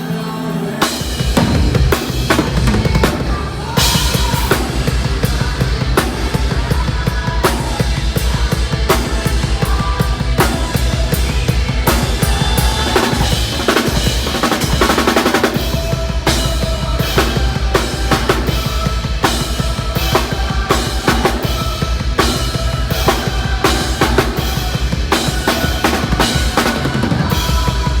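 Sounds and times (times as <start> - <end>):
heavy metal band playing: 0.0 - 28.0
bass drum and snare hits: 1.2 - 28.0.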